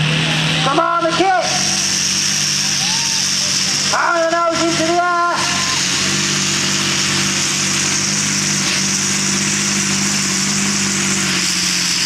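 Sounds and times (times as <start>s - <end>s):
tractor engine running flat out: 0.0s - 12.0s
heavy hiss: 1.4s - 12.0s.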